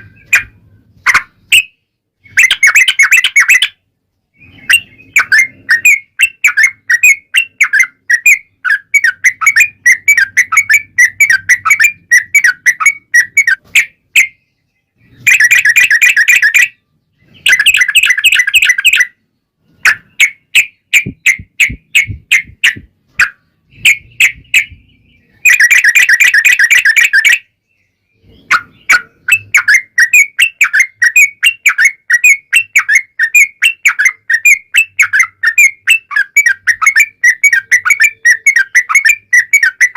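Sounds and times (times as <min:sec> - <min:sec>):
bulbul song chattering: 0:00.0 - 0:39.9.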